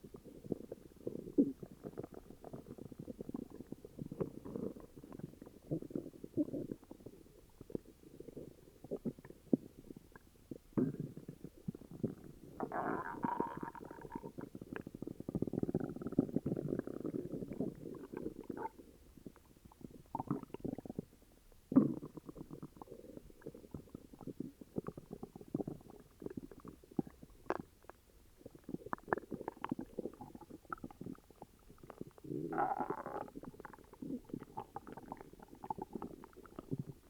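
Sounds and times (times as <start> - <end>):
stomach growling and gurgling: 0.0 - 37.0.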